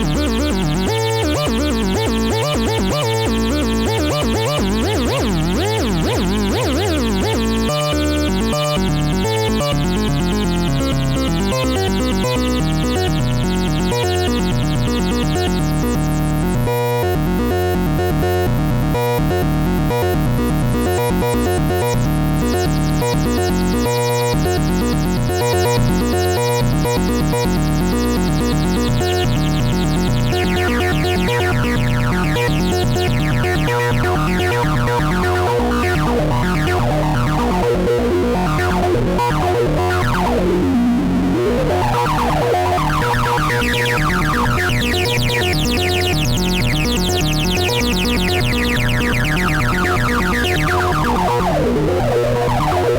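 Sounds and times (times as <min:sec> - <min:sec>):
bass synthesizer sequence: 0:00.0 - 0:52.9.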